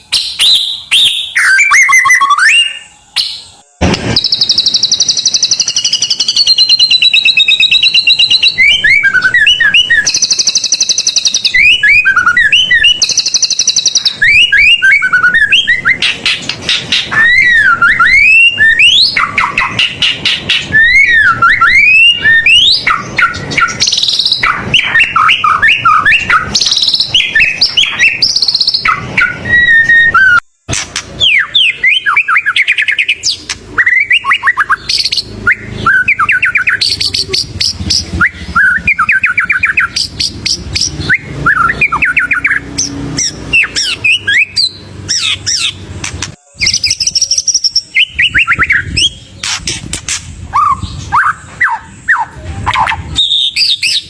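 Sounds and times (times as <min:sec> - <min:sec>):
songbird singing varied whistles: 0:00.0 - 0:45.8, 0:46.4 - 0:54.0.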